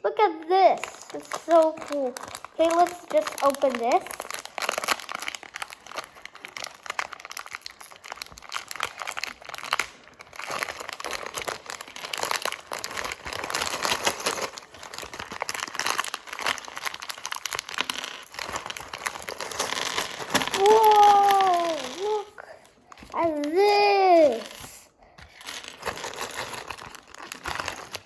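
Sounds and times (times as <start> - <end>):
plastic bag crinkling: 0.5 - 28.0
plastic tearing: 0.5 - 28.0.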